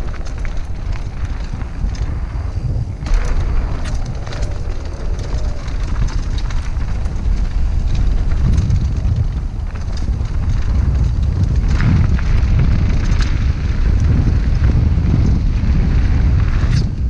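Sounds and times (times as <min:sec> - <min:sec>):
tyres rolling over dirt and rock: 0:00.0 - 0:16.8
bike rattling: 0:00.0 - 0:17.0
wind rumbling on microphone: 0:00.0 - 0:17.0.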